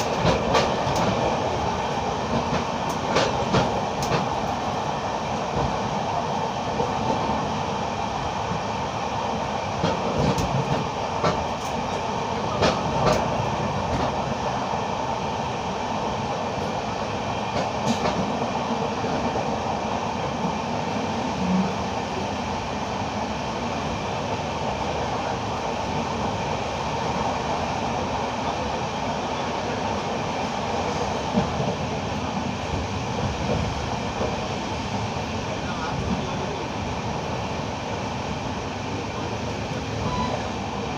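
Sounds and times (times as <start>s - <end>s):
train rail rumble: 0.0s - 40.9s.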